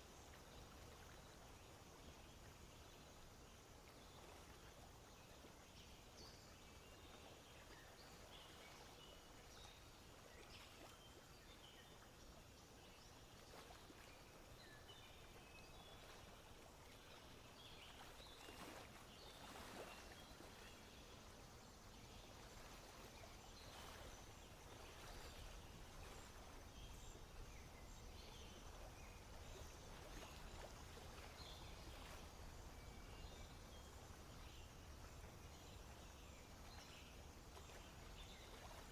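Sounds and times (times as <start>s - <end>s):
low steady background noise: 0.0s - 38.9s.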